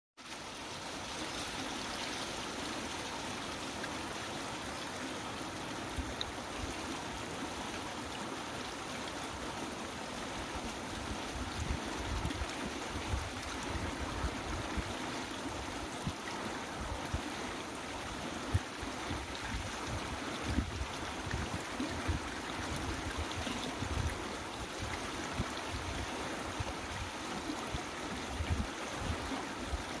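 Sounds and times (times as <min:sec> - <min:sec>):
flowing water rushing: 0:00.2 - 0:30.0.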